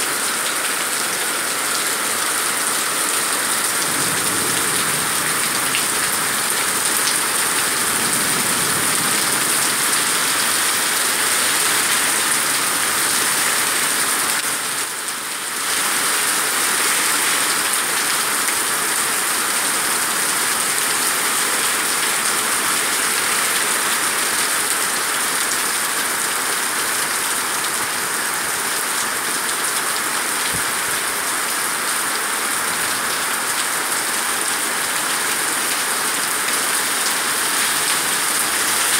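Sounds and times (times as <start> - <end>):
rain falling on pavement: 0.0 - 38.9.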